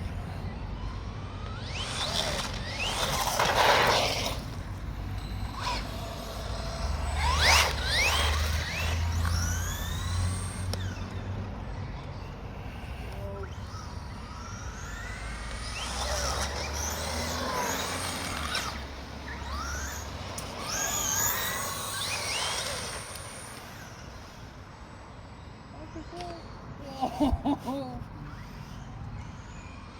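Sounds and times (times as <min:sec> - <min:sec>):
electric motors whining: 0:00.0 - 0:29.9.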